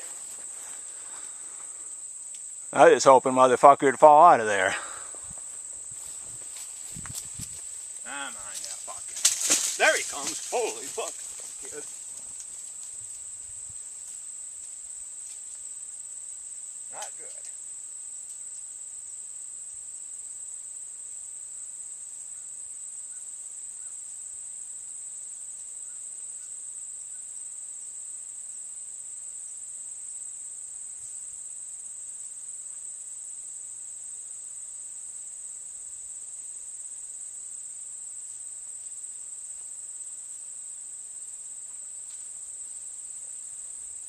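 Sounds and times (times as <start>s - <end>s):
high-pitched insect chorus: 0.0s - 44.0s.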